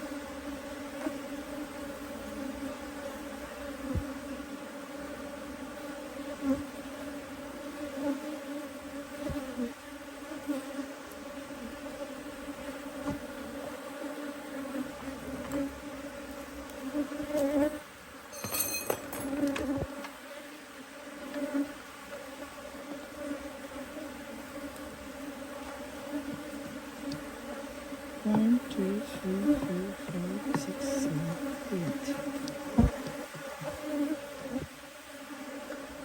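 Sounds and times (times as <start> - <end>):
bees buzzing: 0.0 - 36.0.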